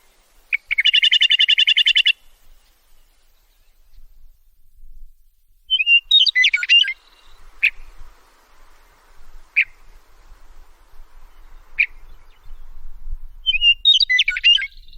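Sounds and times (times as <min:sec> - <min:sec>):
meadowlark singing: 0:00.0 - 0:05.0, 0:05.6 - 0:08.2, 0:09.3 - 0:14.9.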